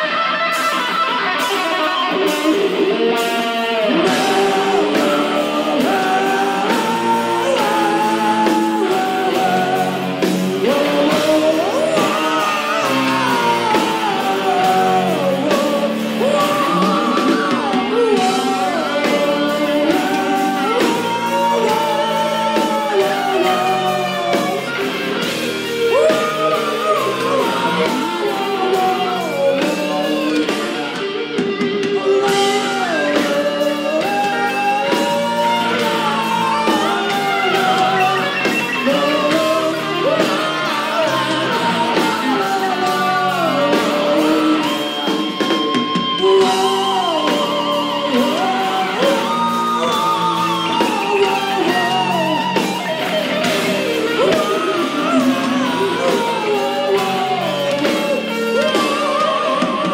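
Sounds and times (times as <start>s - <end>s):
heavy metal band playing: 0.0s - 59.9s
man singing: 0.0s - 59.9s.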